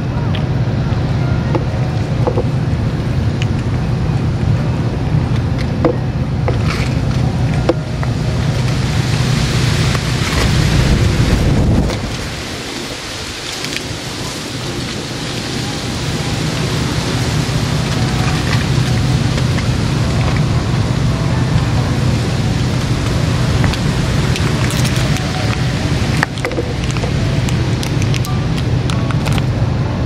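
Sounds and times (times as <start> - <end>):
steady rain: 0.0 - 30.0
wind buffeting microphone: 0.0 - 30.0.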